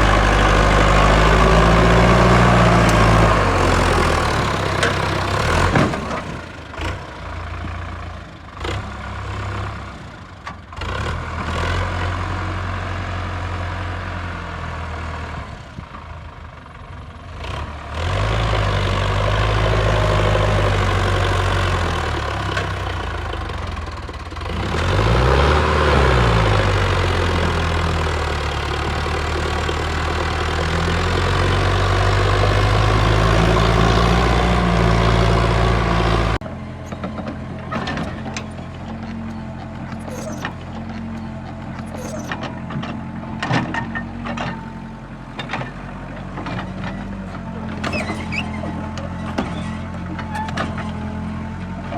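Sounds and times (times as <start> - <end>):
heavy machinery engine running: 0.0 - 12.2, 18.0 - 51.9.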